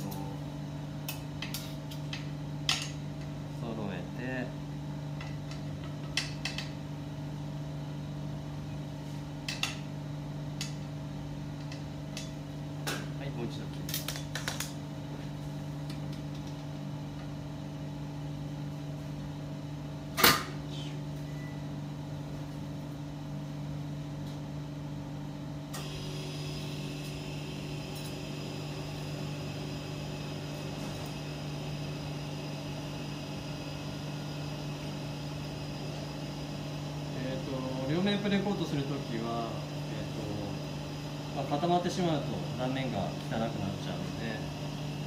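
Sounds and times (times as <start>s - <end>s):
kitchen machinery humming: 0.0s - 45.0s
machine high steady whine: 0.0s - 45.0s.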